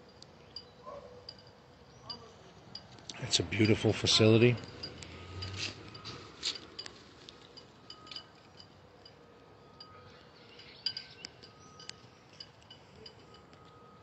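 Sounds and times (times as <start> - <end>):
metallic tinkling chimes: 0.0 - 14.0.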